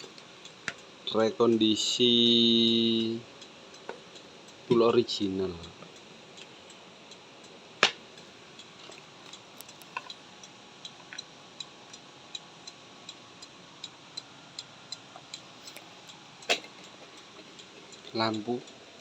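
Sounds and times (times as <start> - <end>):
flasher relay ticking: 0.0 - 19.0.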